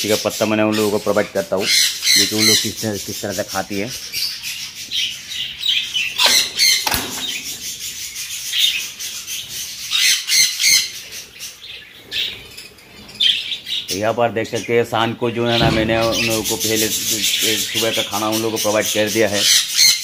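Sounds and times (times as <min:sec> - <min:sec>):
budgerigars chattering and squawking: 0:00.0 - 0:14.8, 0:15.6 - 0:20.0.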